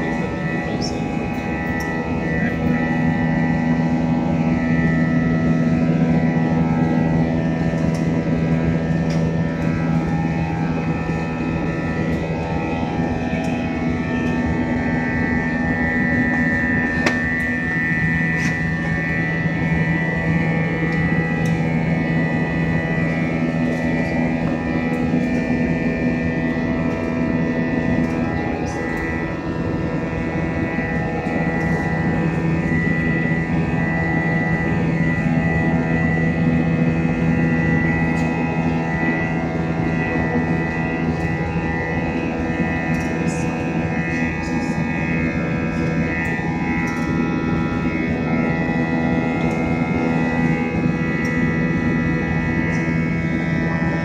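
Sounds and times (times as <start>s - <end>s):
jet engine cabin drone: 0.0s - 54.0s
steady humming tones: 0.0s - 54.0s.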